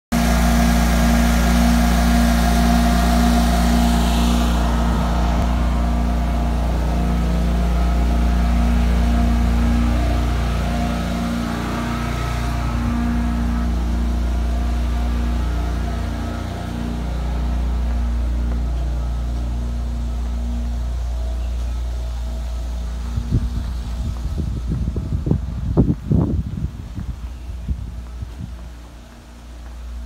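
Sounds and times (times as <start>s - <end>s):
carpet cleaning machine humming: 0.1s - 25.2s
high hiss: 0.2s - 24.6s.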